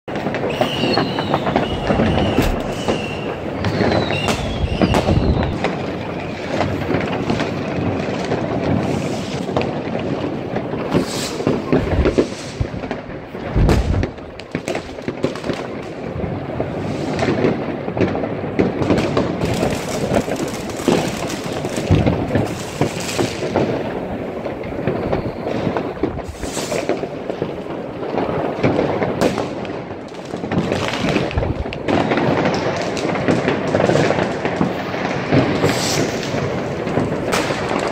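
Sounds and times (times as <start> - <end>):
fireworks cracking and banging: 0.1 - 37.9
heavy fireworks booms: 0.1 - 37.9.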